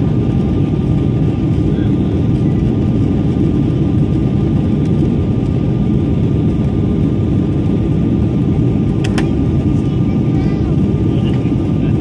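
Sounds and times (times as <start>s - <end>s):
airflow over fuselage: 0.0s - 12.0s
jet engines roaring: 0.0s - 12.0s.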